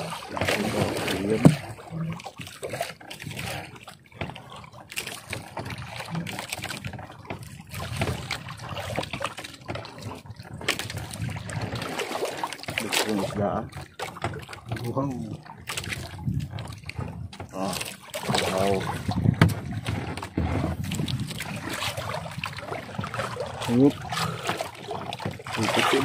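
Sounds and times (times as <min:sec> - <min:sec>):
net and boat knocking: 0:00.0 - 0:26.0
water dripping and splashing: 0:00.0 - 0:26.0.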